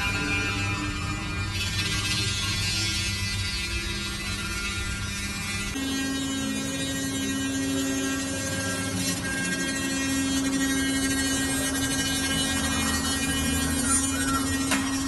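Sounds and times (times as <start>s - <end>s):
cutter carving foam: 0.0s - 15.0s
router spindle humming: 1.3s - 15.0s.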